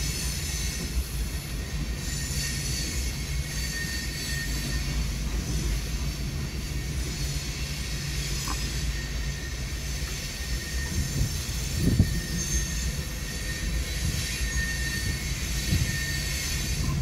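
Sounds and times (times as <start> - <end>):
heavy train clank: 0.0 - 17.0
train wheels rumbling on rail: 0.0 - 17.0
faint high squeal: 1.6 - 6.1, 6.7 - 17.0.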